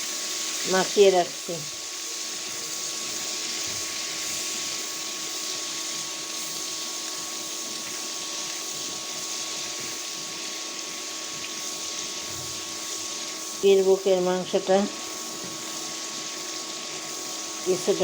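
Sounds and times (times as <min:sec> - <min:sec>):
meat sizzling in hot oil: 0:00.0 - 0:18.0.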